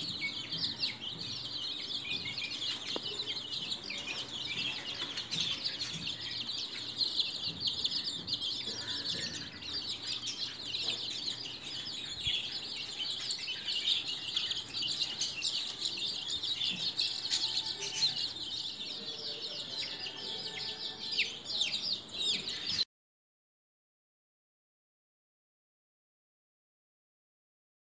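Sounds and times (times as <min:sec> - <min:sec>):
chicks peeping: 0:00.0 - 0:22.8.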